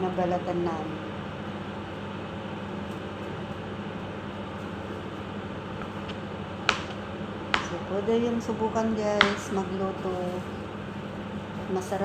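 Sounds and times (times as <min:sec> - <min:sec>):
appliance humming and hissing: 0:00.0 - 0:12.0.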